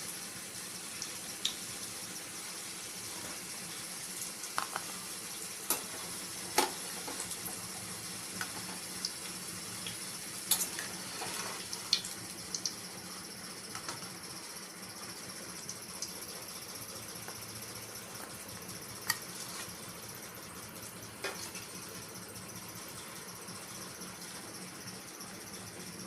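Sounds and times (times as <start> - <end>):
hot oil sizzling in a frying pan: 0.0 - 26.0.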